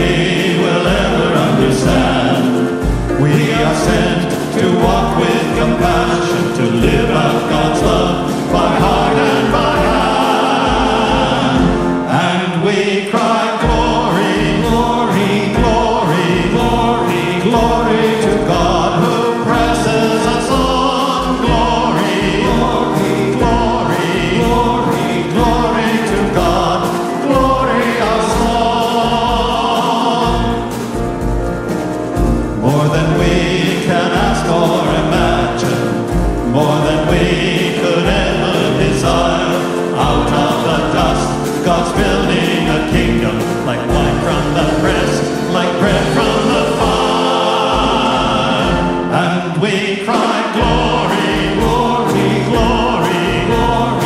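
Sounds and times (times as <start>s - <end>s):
choir singing: 0.0s - 54.0s
instrumental accompaniment with beat: 0.0s - 54.0s.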